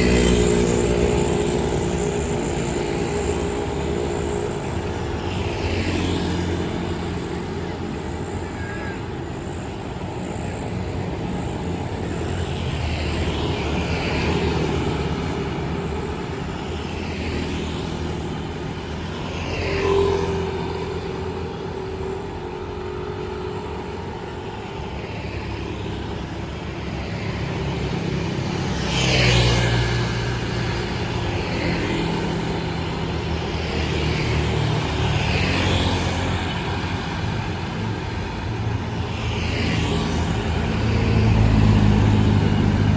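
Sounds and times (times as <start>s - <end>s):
city traffic drone: 0.0s - 42.9s.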